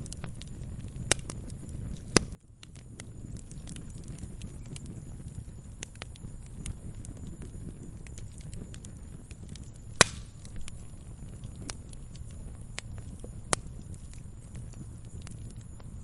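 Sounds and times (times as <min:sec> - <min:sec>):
sharp pops from fire: 0:00.0 - 0:16.0
wood fire crackling: 0:00.0 - 0:16.0.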